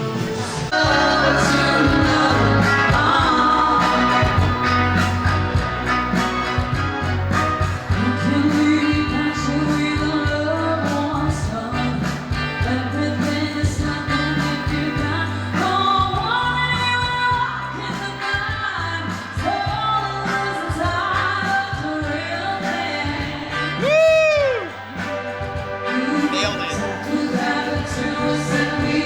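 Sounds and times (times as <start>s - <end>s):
pop song with singing: 0.0s - 29.0s.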